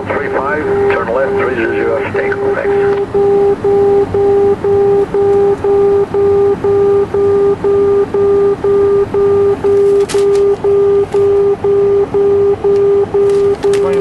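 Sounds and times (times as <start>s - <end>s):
keyed beacon tone dashes: 0.0s - 14.0s.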